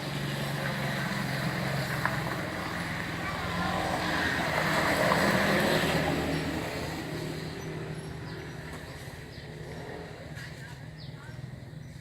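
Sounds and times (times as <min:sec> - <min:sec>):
motor vehicle passing by: 0:00.0 - 0:12.0.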